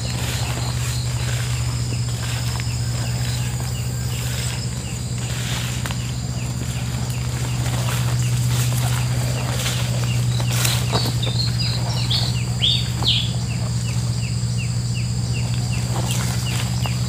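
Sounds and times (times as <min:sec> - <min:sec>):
bird chirping: 0:00.0 - 0:17.0
rustle of walking through undergrowth: 0:00.0 - 0:17.0
steady low hum: 0:00.0 - 0:17.0.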